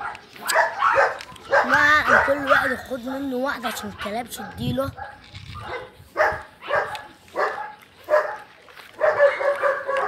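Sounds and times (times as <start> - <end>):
dog barking: 0.0 - 10.0.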